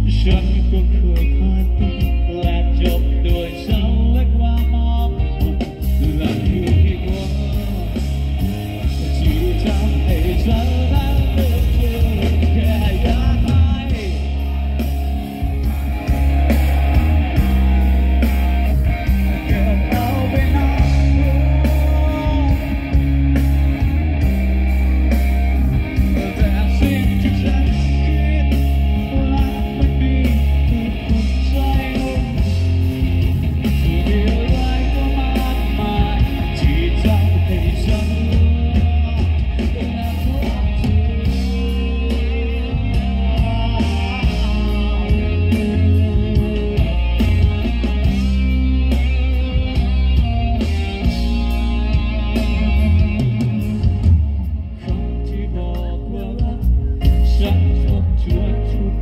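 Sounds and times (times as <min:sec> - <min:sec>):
bass guitar: 0:00.0 - 0:59.0
drums: 0:00.0 - 0:59.0
electric guitar: 0:00.0 - 0:59.0
man singing: 0:00.0 - 0:59.0.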